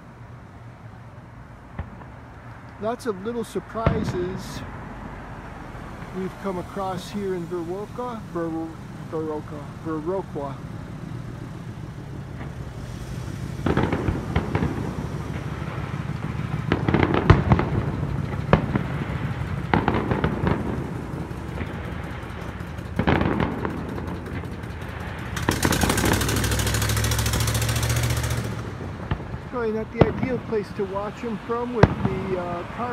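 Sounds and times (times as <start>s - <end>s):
steady rushing noise with low hum: 0.0s - 32.9s
firework shells bursting: 5.9s - 32.9s.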